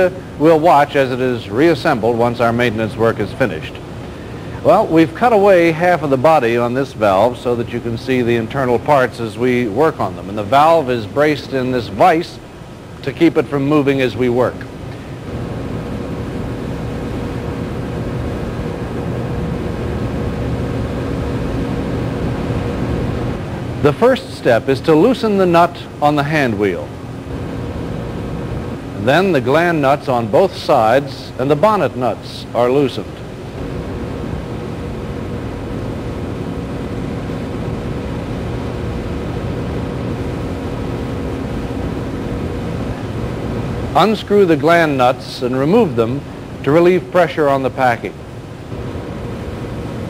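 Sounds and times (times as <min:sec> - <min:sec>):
faint low hum: 0:00.0 - 0:50.0
machinery drone: 0:00.0 - 0:50.0.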